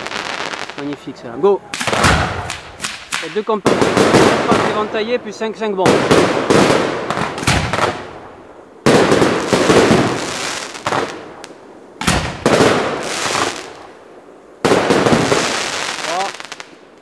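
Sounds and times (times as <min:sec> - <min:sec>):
fireworks bangs: 0:00.0 - 0:17.0
fireworks crackle and rumble: 0:00.0 - 0:17.0.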